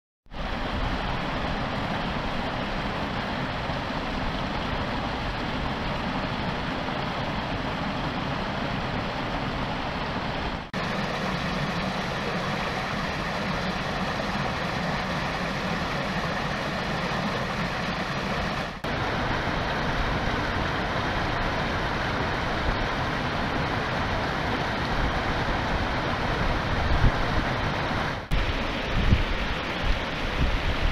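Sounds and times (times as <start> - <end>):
stream water spilling over rocks: 0.4 - 30.9.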